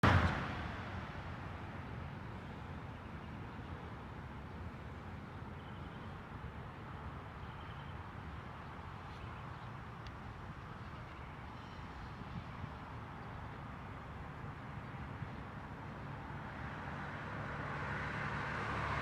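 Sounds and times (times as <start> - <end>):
vehicle and road rumble: 0.0 - 19.0.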